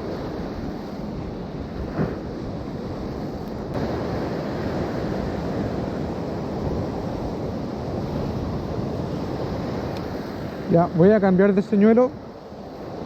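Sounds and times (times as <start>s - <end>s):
rough sea surf: 0.0s - 13.0s
wind buffeting microphone: 0.0s - 13.0s.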